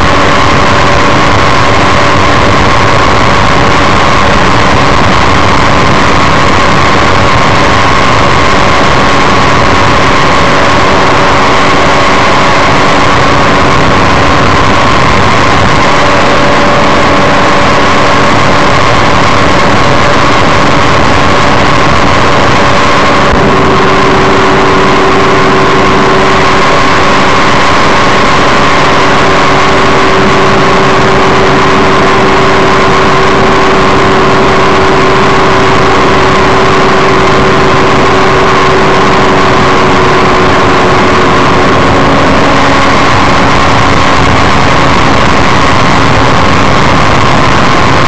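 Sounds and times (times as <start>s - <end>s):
aircraft engine and propeller drone: 0.0s - 48.0s
wind rush on microphone: 0.0s - 48.0s.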